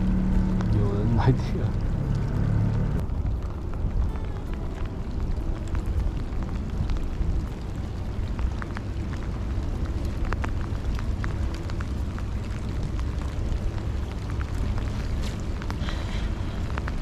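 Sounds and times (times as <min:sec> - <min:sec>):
raindrops ticking: 0:00.0 - 0:17.0
wind buffeting microphone: 0:02.9 - 0:17.0.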